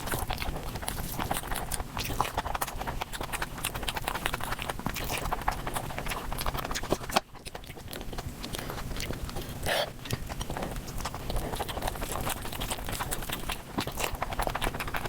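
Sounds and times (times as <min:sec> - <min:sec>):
fast chewing and mouth smacks: 0:00.0 - 0:15.0.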